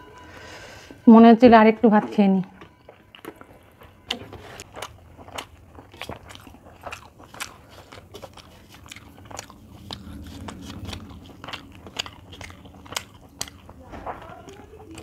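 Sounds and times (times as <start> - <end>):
chewing: 2.6 - 15.0.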